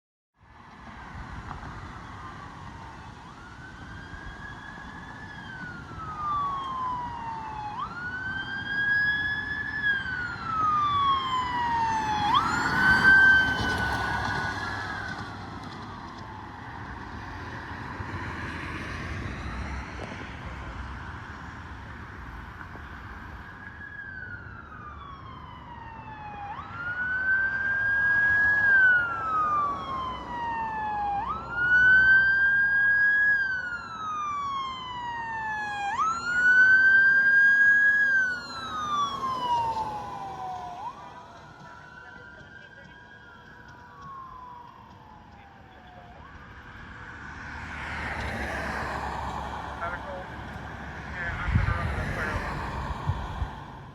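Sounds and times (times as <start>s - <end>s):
fire engine wail siren: 0.4s - 53.9s
rumble of passing vehicle: 0.4s - 53.9s.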